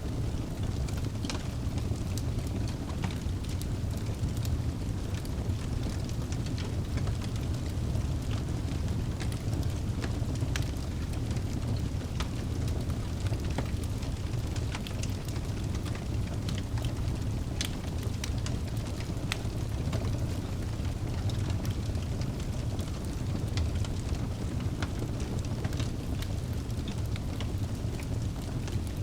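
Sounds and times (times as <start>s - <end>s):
fire popping and snapping: 0.0s - 29.0s
log fire crackling: 0.0s - 29.0s.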